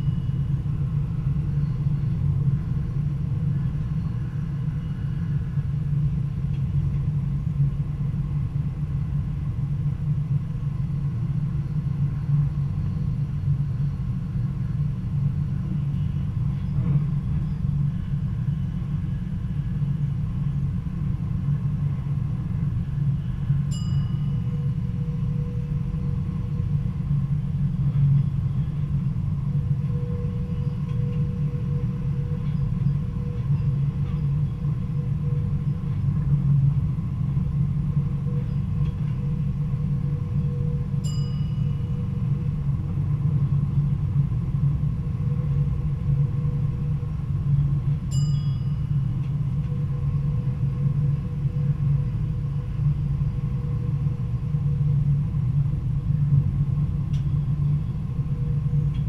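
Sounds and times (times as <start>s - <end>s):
faint steady hum: 0.0s - 59.0s
train rumbling along track: 0.0s - 59.0s.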